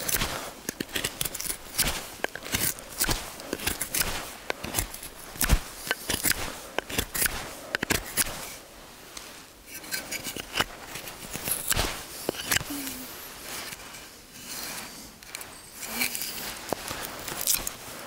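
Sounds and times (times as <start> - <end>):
knife carving wood: 0.0 - 8.6, 9.6 - 13.0, 13.6 - 17.8.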